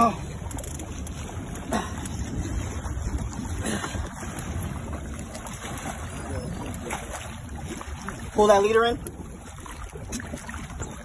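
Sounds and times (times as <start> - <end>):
water sloshing against boat hull: 0.0 - 11.0
wind buffeting microphone: 0.0 - 11.0.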